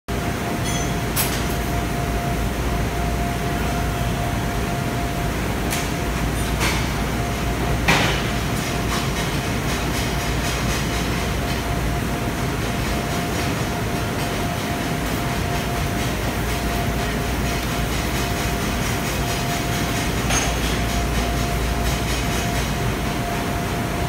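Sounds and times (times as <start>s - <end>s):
ironworker machine humming: 0.1s - 24.0s.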